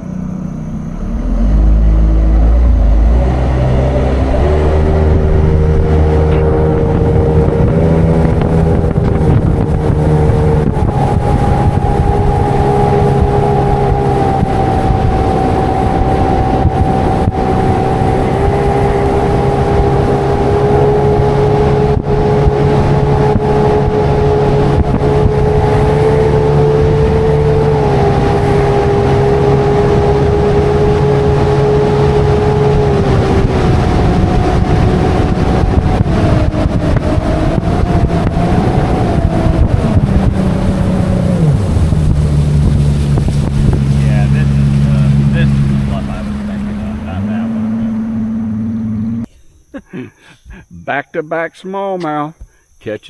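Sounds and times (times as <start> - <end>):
outboard motor running: 0.0 - 49.3.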